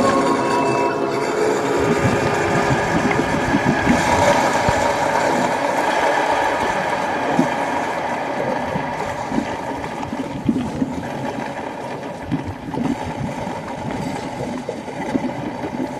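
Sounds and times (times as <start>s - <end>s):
water churning in bucket: 0.0s - 15.9s.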